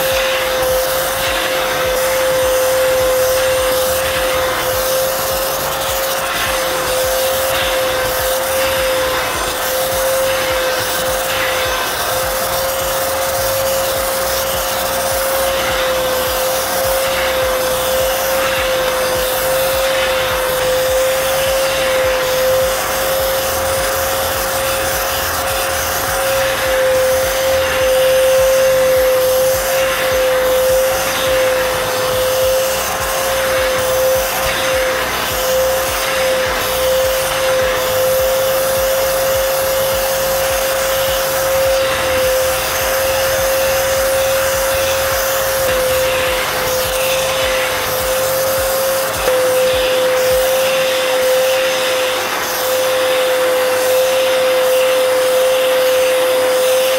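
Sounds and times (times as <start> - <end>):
vacuum cleaner motor whine: 0.0 - 56.9.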